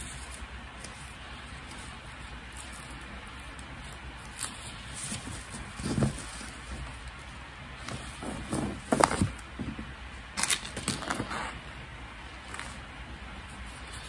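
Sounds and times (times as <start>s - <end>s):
face mask rustling: 0.0s - 14.0s.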